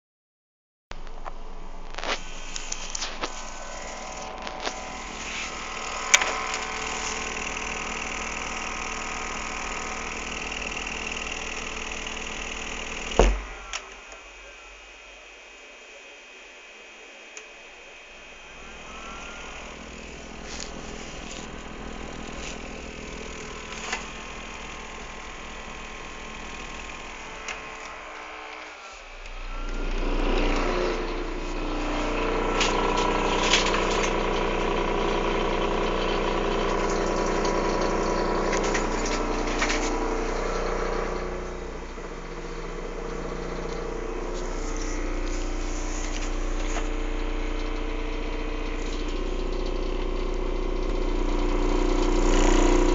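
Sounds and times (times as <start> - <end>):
computer fans humming: 1.4 - 52.9.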